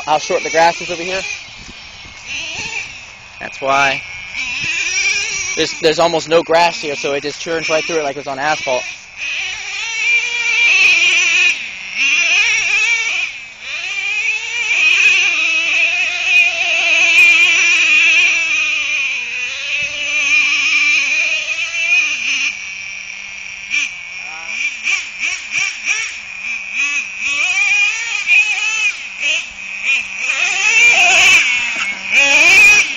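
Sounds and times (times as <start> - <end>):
small engine whining and revving: 0.0 - 32.9.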